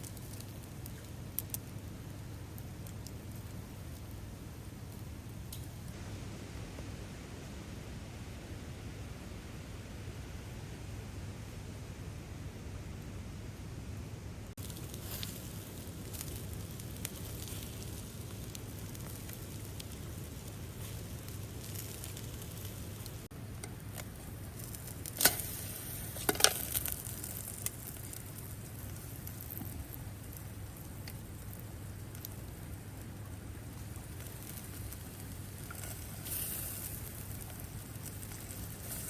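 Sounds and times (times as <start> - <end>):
campfire hissing and crackling: 0.0 - 6.6, 14.0 - 39.0.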